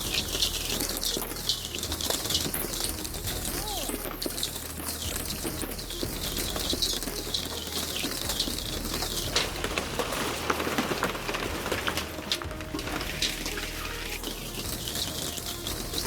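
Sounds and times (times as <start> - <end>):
hail pattering on hard surfaces: 0.0 - 16.0.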